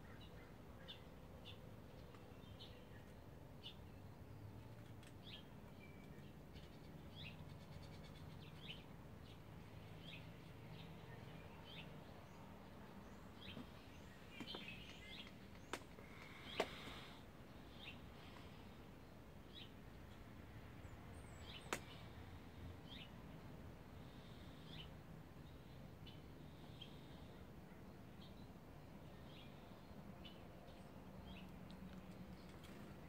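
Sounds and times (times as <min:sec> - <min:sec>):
songbird chirps: 0:00.0 - 0:33.0.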